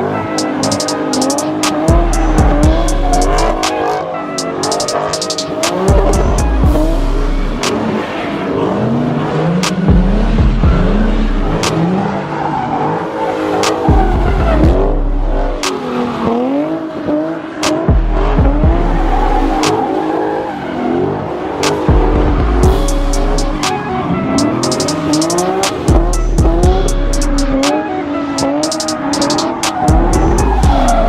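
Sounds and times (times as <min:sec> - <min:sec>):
car engines revving: 0:00.0 - 0:31.0
music with deep bass: 0:00.1 - 0:08.1, 0:08.7 - 0:12.2, 0:13.6 - 0:16.6, 0:17.6 - 0:20.0, 0:21.6 - 0:31.0.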